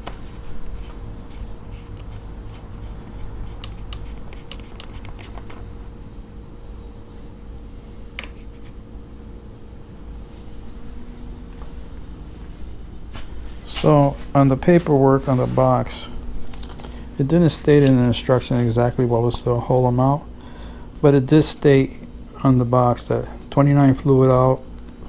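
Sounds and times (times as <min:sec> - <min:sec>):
insects trilling: 0:00.0 - 0:25.0
low steady hum: 0:00.0 - 0:25.0.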